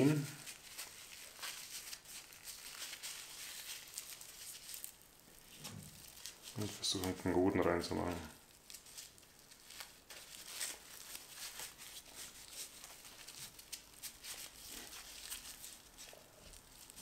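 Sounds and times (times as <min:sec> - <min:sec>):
paper crinkling: 0:00.0 - 0:17.0.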